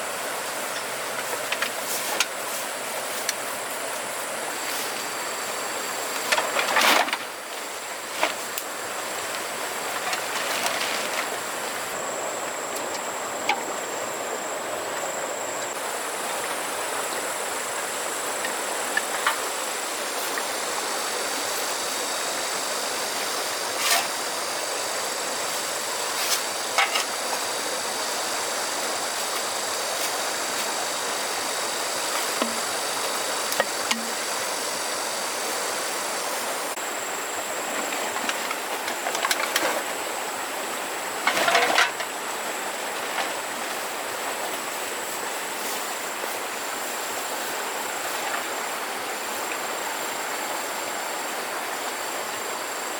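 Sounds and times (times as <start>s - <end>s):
river water flowing: 7.3s - 10.4s, 11.3s - 52.9s.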